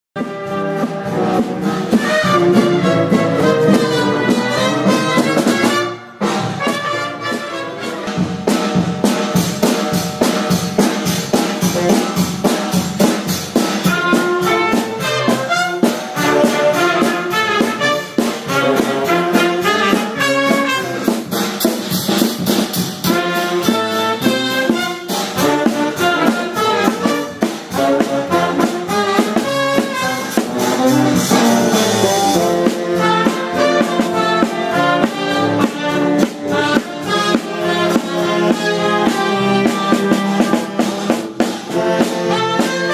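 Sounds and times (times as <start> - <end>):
trumpet playing a melody: 0.2 - 9.2, 9.9 - 21.7, 23.0 - 42.9
drumbeat with snare drum: 0.2 - 42.9.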